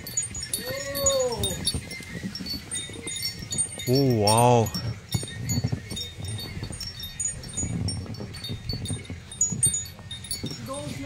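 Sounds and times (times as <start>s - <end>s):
high-pitched tinkling: 0.0s - 11.0s.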